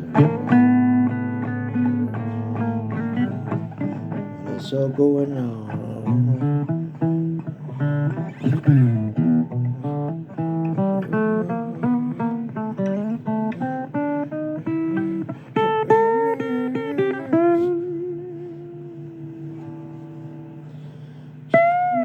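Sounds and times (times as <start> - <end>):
blues guitar playing: 0.0 - 22.0.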